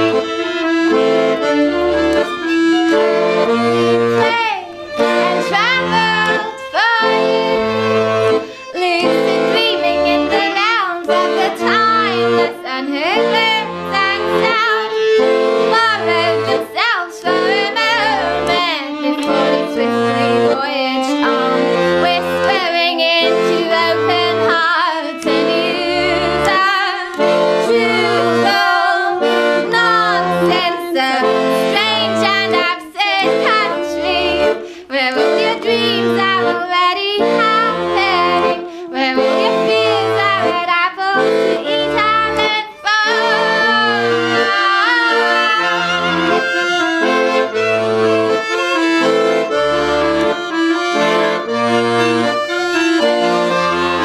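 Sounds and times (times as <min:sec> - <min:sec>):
accordion chords: 0:00.0 - 0:54.0
violin sliding melody: 0:00.0 - 0:54.0.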